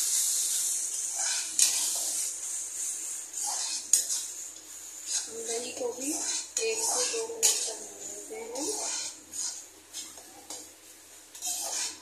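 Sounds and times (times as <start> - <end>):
metal spatula scraping pan: 0.0 - 10.7, 11.3 - 12.0
paste sizzling in a pan: 0.0 - 12.0.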